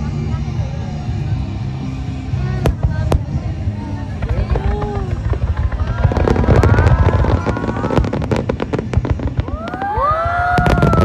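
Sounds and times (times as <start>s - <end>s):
fireworks booming and crackling: 0.9s - 11.0s.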